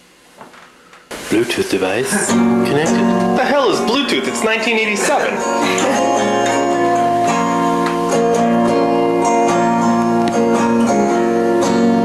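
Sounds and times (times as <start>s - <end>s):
acoustic guitar strumming: 1.1s - 12.0s.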